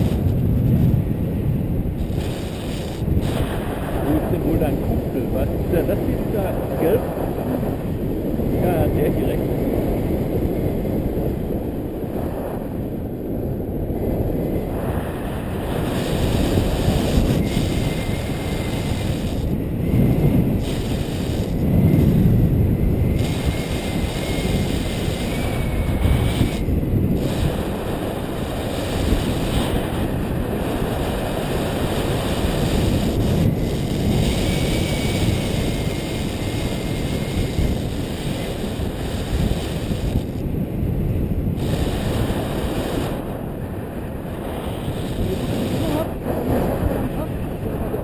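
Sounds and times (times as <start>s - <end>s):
wind rushing over microphone: 0.0s - 48.0s.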